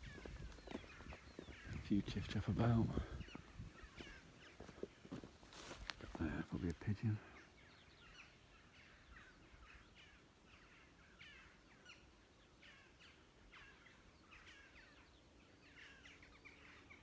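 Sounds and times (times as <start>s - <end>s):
faint bird song: 0.0s - 17.0s.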